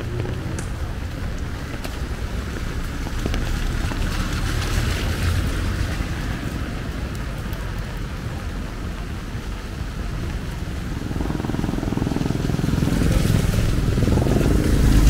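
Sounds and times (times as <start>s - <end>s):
rain on a street: 0.0s - 15.0s
wind rumbling on microphone: 0.0s - 15.0s.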